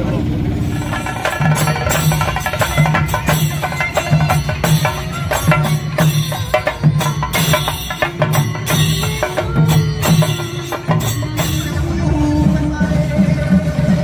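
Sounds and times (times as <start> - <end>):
held pitched tone: 0.0 - 13.6
pulsing low drum tone: 0.0 - 14.0
cymbals: 0.6 - 14.0
drums beaten with sticks: 0.6 - 14.0.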